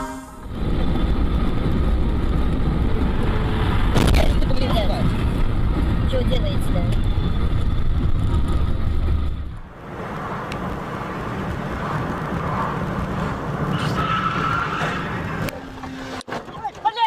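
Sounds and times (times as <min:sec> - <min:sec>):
car engine: 0:00.0 - 0:16.5
road noise: 0:00.0 - 0:17.0.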